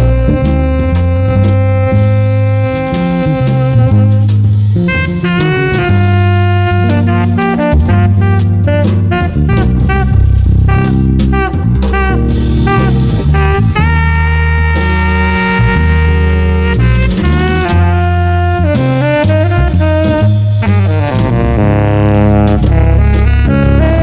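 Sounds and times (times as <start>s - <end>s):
bass: 0.0s - 24.0s
drum kit: 0.0s - 24.0s
saxophone melody: 0.0s - 24.0s.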